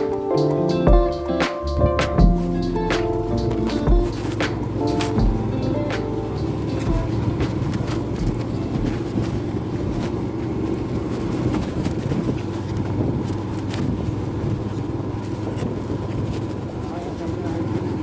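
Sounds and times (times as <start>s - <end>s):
road and wind noise: 0.0s - 18.0s
motorcycle engine running: 2.2s - 18.0s.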